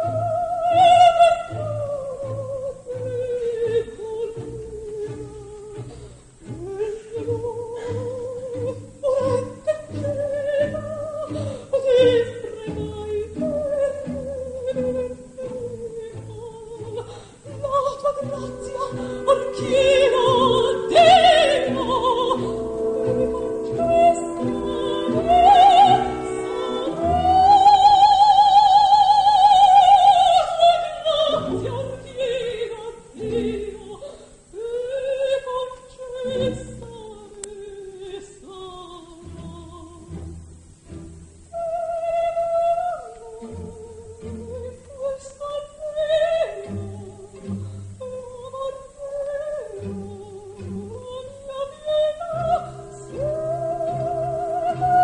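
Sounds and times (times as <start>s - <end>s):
woman singing opera: 0.0s - 40.2s, 41.4s - 55.0s
orchestra playing: 0.1s - 34.0s, 38.9s - 44.9s, 49.2s - 55.0s.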